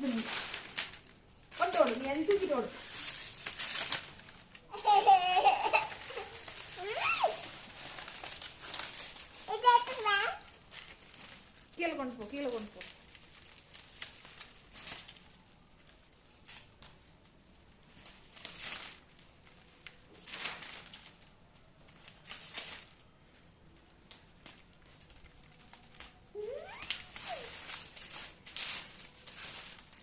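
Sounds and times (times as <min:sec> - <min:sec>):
dog rustling and crinkling object: 0:00.0 - 0:30.0.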